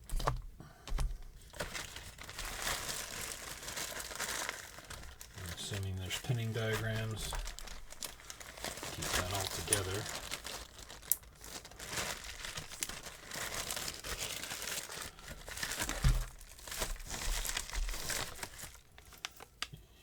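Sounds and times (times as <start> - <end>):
packaging crinkling and rustling: 0.0 - 19.8.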